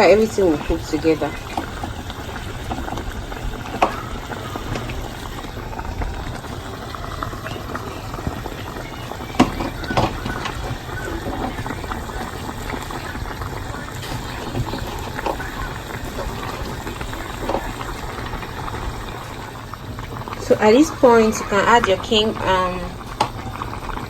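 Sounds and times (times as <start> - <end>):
soup bubbling in a pot: 0.0 - 24.0.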